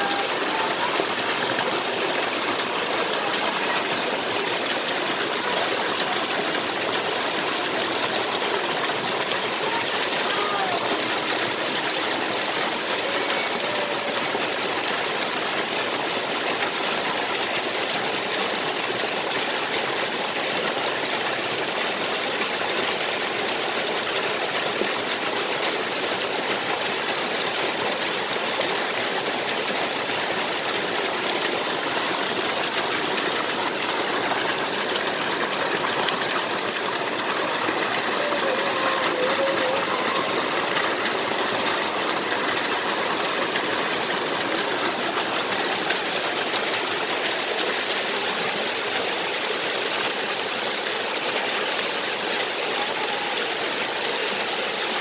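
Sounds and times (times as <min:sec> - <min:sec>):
waterfall and stream rushing: 0:00.0 - 0:55.0.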